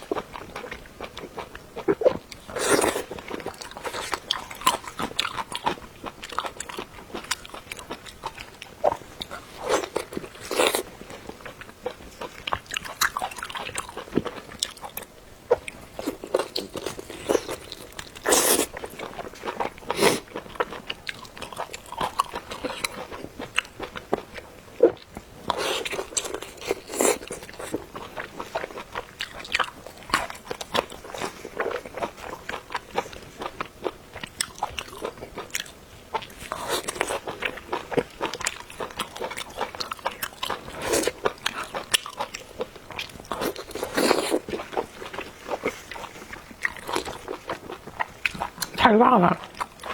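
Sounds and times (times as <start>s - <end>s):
people biting and chewing food: 0.0s - 48.8s.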